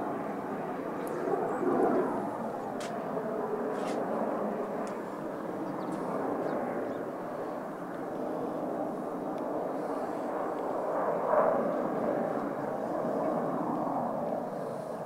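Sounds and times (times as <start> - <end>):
distant jet roar: 0.0 - 15.0.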